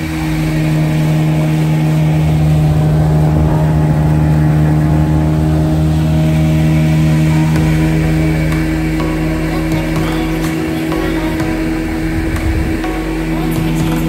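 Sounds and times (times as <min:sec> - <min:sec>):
speedboat engine droning: 0:00.0 - 0:14.0
wind and water rushing: 0:00.0 - 0:14.0.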